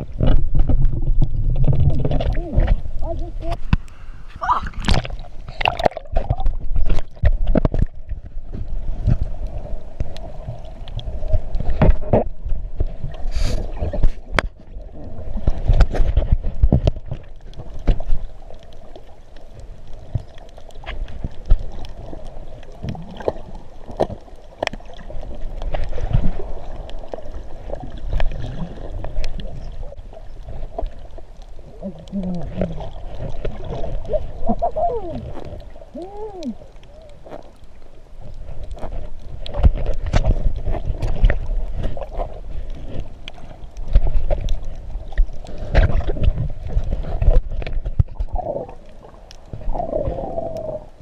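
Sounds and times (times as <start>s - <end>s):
muffled sea water sloshing: 0.0s - 51.0s.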